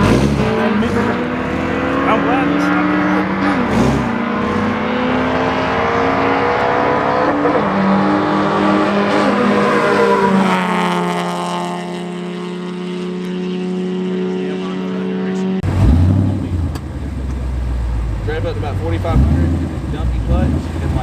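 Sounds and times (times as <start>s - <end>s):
car engines droning: 0.0s - 21.0s.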